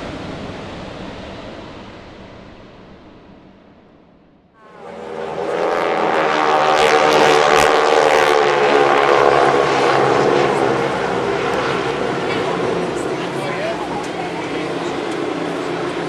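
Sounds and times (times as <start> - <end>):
propeller airplanes droning overhead: 0.0 - 16.0.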